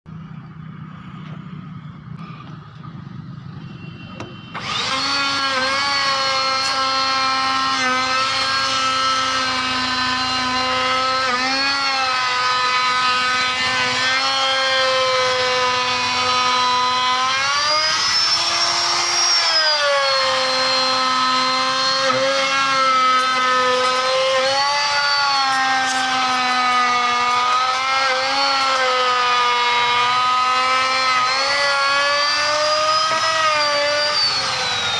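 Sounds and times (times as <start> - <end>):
wood router whining: 0.4 - 34.9.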